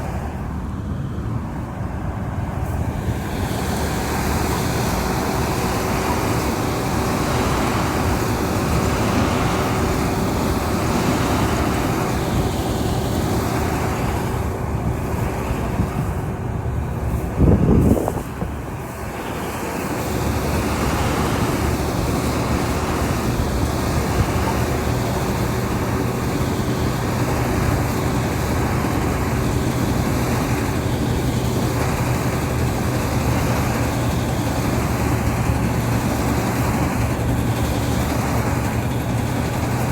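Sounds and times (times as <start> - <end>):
continuous noise: 0.0 - 39.9
engine running: 0.0 - 39.9.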